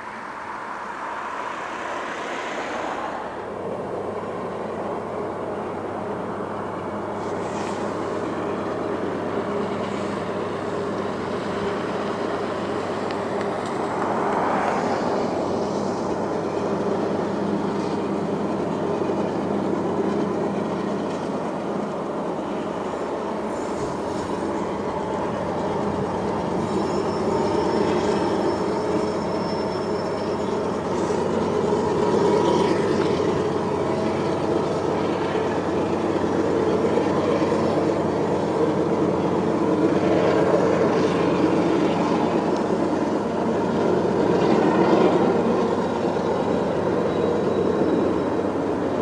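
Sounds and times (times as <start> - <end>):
freight train wheels rumbling: 0.0 - 49.0
high wheel squeal: 6.5 - 49.0.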